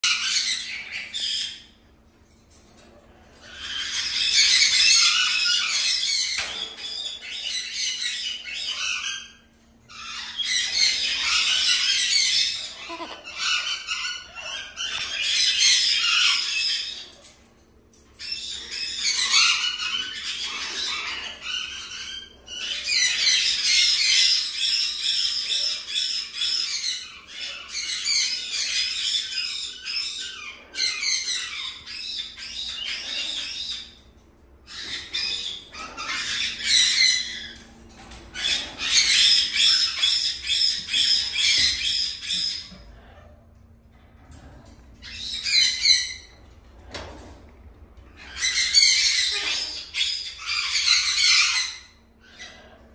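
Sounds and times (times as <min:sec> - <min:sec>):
parrots chattering and squawking: 0:00.0 - 0:52.9.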